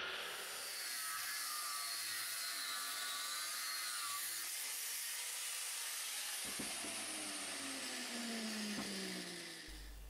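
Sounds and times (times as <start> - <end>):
angle grinder cutting steel: 0.0 - 10.0.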